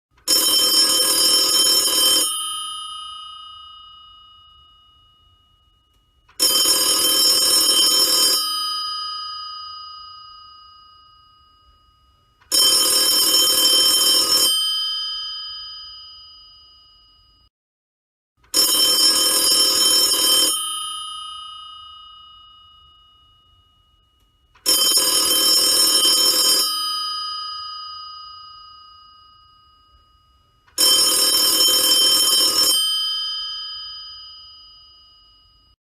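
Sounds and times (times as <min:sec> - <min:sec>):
telephone mechanical bell ringing: 0:00.2 - 0:17.5, 0:18.4 - 0:35.8.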